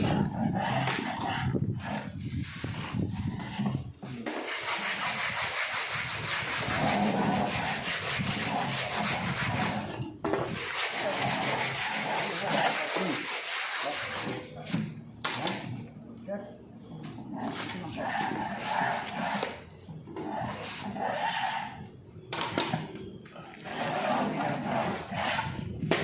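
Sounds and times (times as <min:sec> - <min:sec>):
rough scraping: 0:00.0 - 0:14.8, 0:17.2 - 0:21.8, 0:23.6 - 0:26.0.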